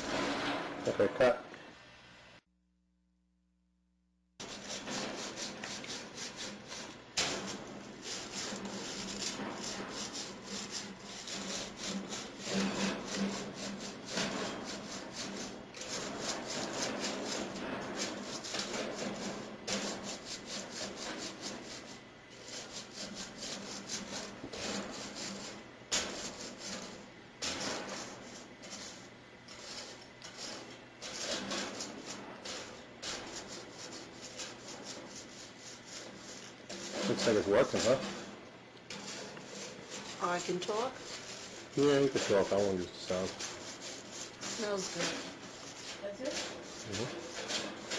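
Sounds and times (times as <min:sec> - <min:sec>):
scrub brush scrubbing: 0:00.0 - 0:01.0, 0:04.4 - 0:47.9.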